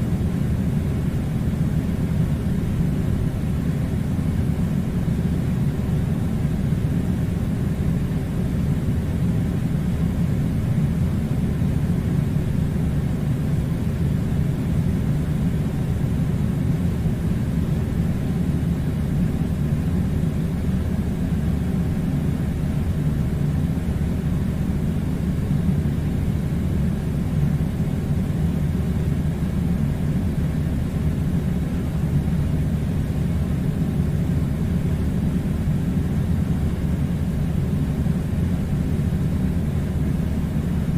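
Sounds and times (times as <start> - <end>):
air conditioner rumbling: 0.0 - 40.9.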